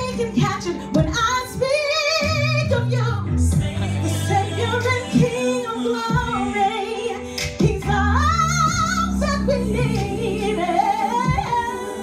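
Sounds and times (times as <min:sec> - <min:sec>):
woman singing gospel: 0:00.0 - 0:12.0.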